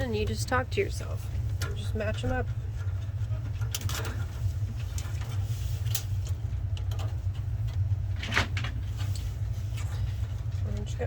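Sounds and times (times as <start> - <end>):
steady low hum: 0.0 - 11.0
wiring and connectors rustling: 0.0 - 11.0.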